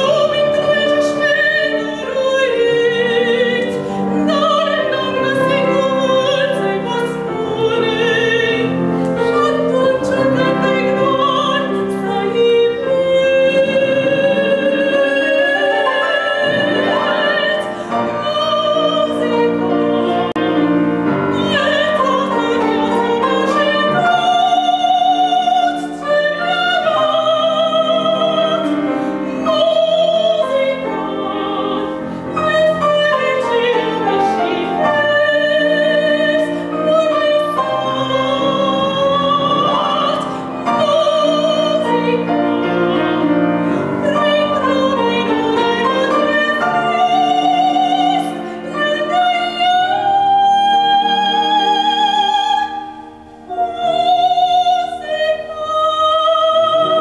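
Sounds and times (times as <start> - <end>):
grand piano: 0.0 - 57.0
woman singing opera: 0.0 - 57.0.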